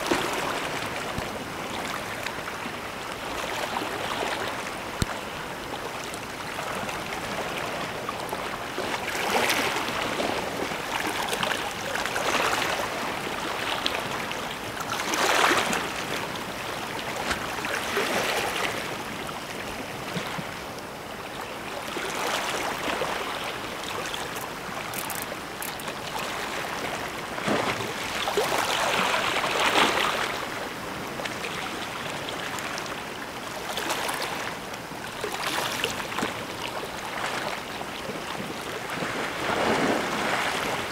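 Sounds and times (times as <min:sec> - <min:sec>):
sea waves splashing on shore: 0:00.0 - 0:20.6, 0:21.6 - 0:40.9.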